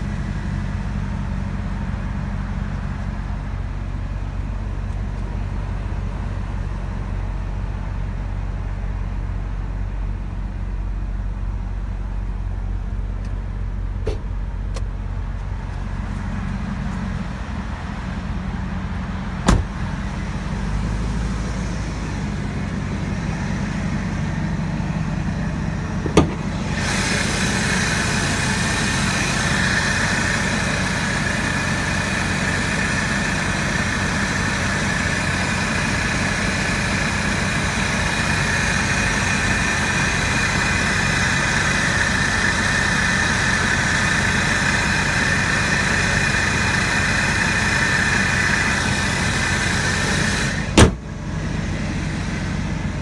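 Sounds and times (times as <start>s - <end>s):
car engine idling: 0.0s - 53.0s
high supercharger whine: 0.0s - 53.0s.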